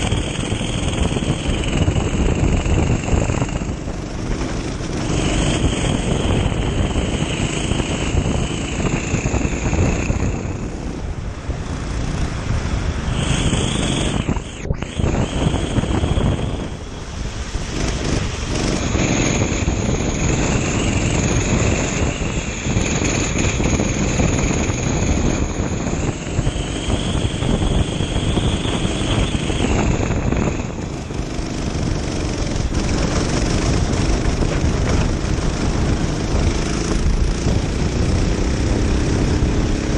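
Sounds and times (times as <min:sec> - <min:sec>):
heavy rush of noise: 0:00.0 - 0:39.9
kart engine racing: 0:00.0 - 0:39.9.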